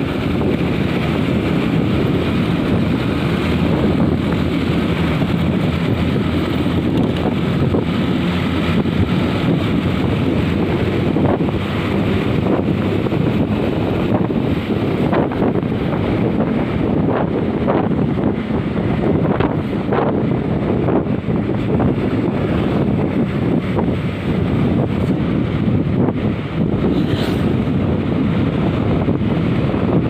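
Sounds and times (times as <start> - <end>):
vehicle road noise rumble: 0.0 - 30.0
wind buffeting microphone: 0.0 - 30.0.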